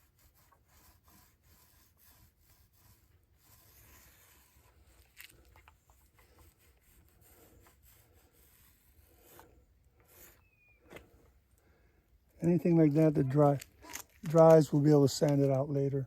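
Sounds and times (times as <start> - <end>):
faint rubbing: 0.0 - 15.7.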